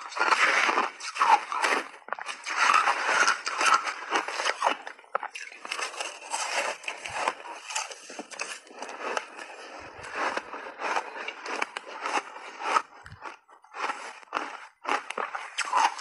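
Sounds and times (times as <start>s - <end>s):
ice being crunched and chewed: 0.0s - 16.0s.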